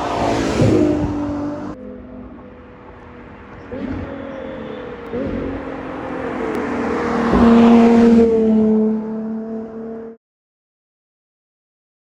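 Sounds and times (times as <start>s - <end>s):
car engine accelerating past: 0.0s - 10.2s.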